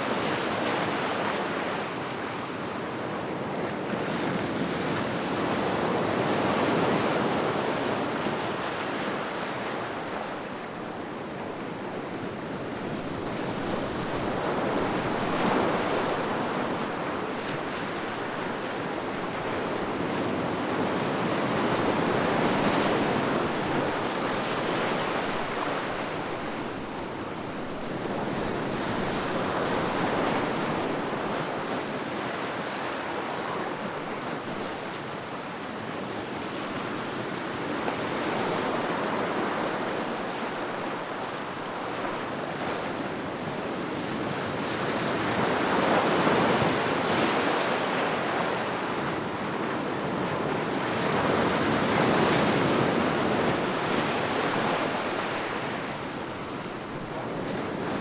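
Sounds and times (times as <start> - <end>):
sea waves breaking on shore: 3.9 - 58.0.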